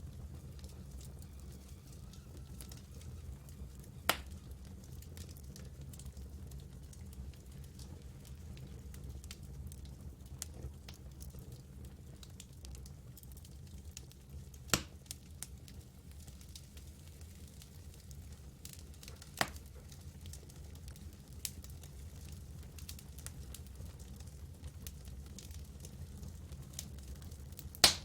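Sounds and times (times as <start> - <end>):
campfire wood crackling: 0.0 - 28.0
loud fire pops: 0.1 - 9.4, 14.7 - 28.0.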